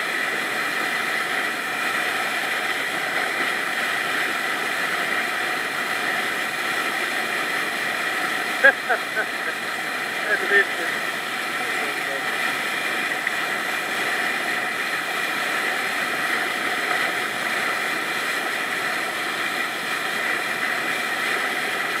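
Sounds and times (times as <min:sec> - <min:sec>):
bow wave rushing and splashing: 0:00.0 - 0:22.0
motorboat engine droning: 0:00.0 - 0:22.0.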